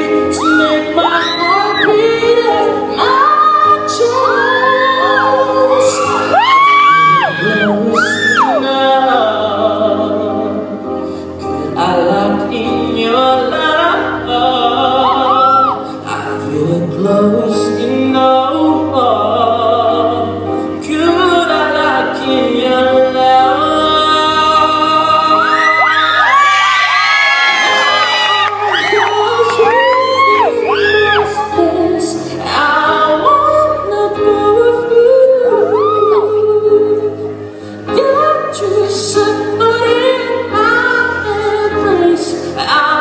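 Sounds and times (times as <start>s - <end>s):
pop music accompaniment: 0.0s - 43.0s.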